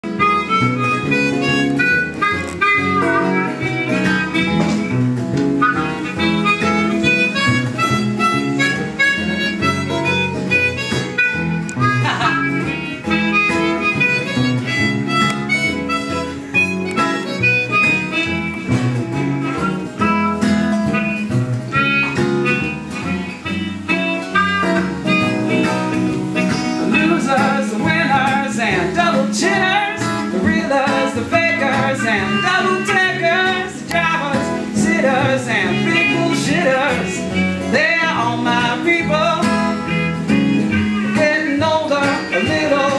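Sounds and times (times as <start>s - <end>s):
guitar playing: 0.0s - 42.9s
harmonica playing: 0.0s - 42.9s.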